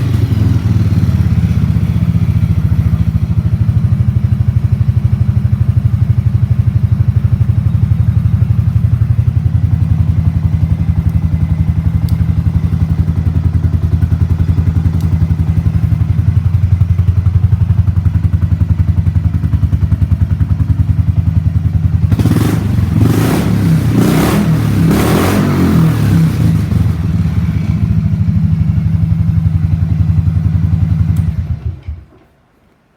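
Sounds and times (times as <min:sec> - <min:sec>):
motorcycle engine idling and revving: 0:00.0 - 0:32.1.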